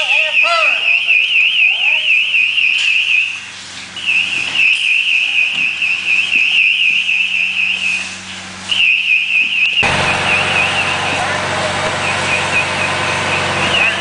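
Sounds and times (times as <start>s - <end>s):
high-pitched warbling alarm: 0.0s - 14.0s.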